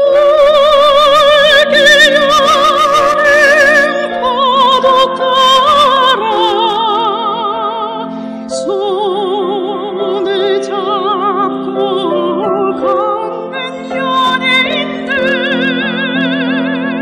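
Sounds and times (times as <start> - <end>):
soprano singing operatic song: 0.0 - 17.0.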